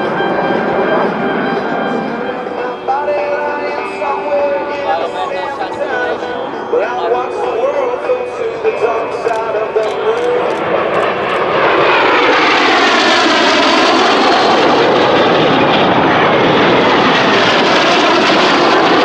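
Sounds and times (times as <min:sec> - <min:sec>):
jets passing low: 0:00.0 - 0:19.0.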